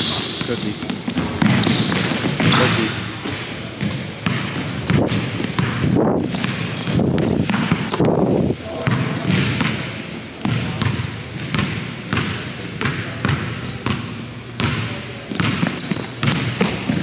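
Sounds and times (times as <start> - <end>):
basketball bouncing on gym floor: 0.0 - 17.0
sneakers squeaking on floor: 0.0 - 17.0.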